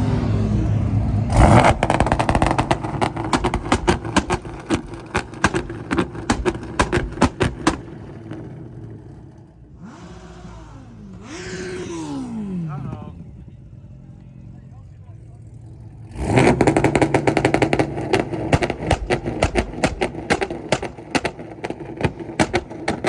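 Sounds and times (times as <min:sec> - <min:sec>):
car engine rumble: 0:00.0 - 0:23.0
car exhaust popping and banging: 0:01.0 - 0:13.4, 0:16.1 - 0:23.0.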